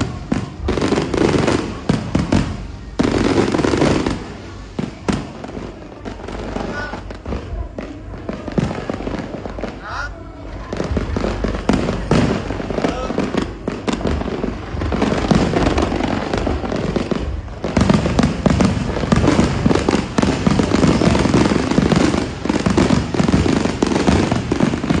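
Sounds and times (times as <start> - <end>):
fireworks bursts and crackles: 0.0 - 25.0.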